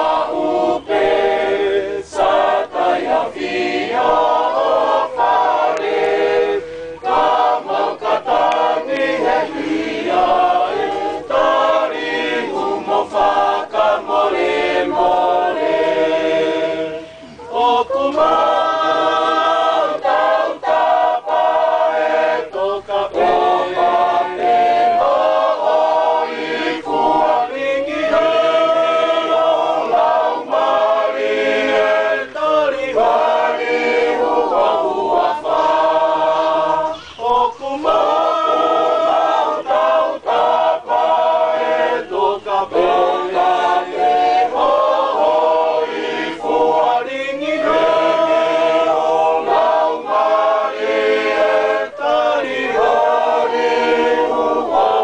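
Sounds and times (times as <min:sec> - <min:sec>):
choir singing in parts: 0:00.0 - 0:55.0.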